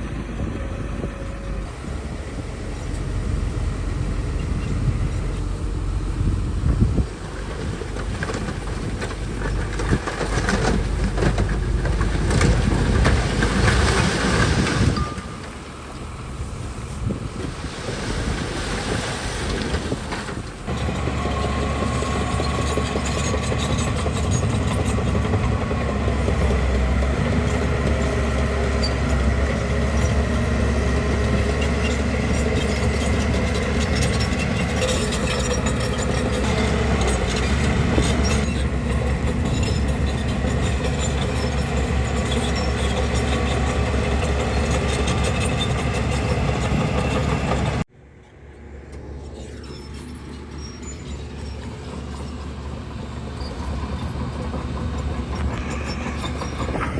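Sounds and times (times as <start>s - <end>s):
clattering steel crawler tracks: 0.0s - 6.2s, 7.0s - 56.9s
bulldozer diesel engine rumbling: 0.0s - 56.9s.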